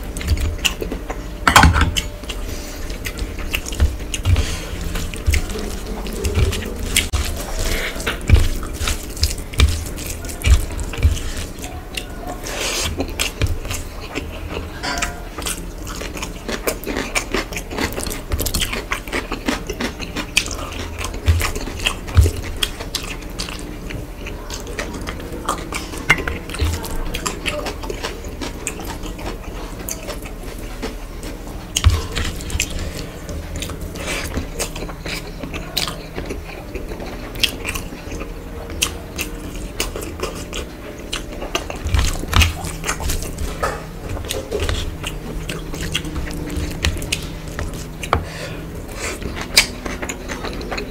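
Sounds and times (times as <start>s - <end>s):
chewing and lip smacking: 0.0s - 50.9s.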